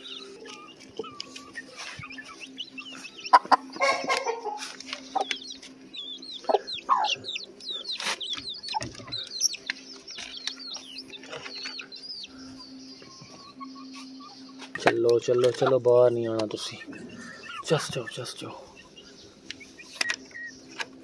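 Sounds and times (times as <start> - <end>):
chicks peeping: 0.0 - 21.0
hen clucking: 0.0 - 21.0.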